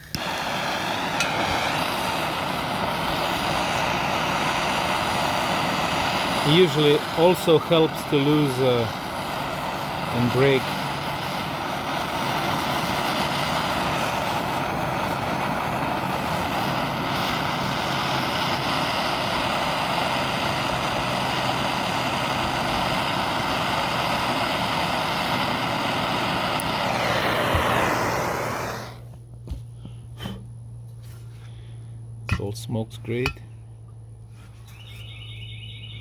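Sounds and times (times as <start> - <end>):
gas torch roaring hiss: 0.0 - 31.3.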